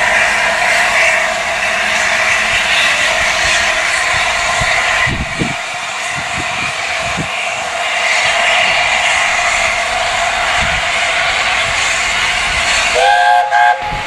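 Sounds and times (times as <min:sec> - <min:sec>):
steam locomotive rushing hiss: 0:00.0 - 0:14.0.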